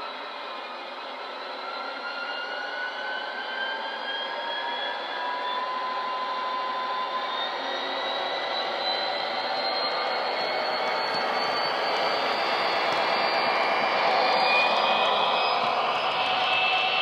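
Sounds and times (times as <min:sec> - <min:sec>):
model locomotive diesel engine sound: 0:00.0 - 0:17.0
whining tones climbing in pitch: 0:00.0 - 0:17.0.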